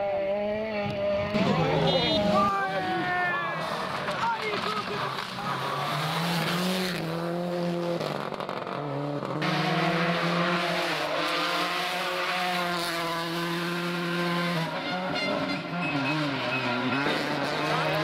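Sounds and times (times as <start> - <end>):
rally car engine at high revs: 0.0 - 2.4, 3.5 - 18.0.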